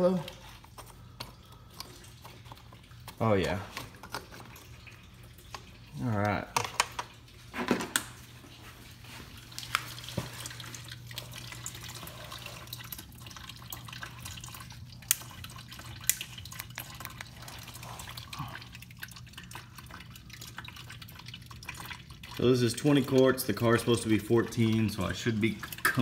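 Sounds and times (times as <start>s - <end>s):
coolant pouring into plastic bin: 0.0s - 26.0s
low steady hum: 0.0s - 26.0s.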